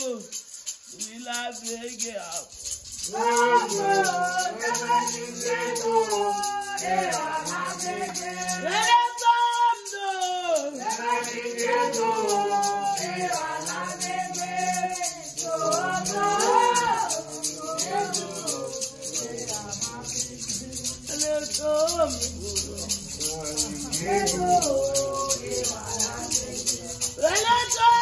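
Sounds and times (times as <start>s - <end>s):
gourd rattle shaken: 0.0s - 28.0s
people singing: 0.0s - 28.0s.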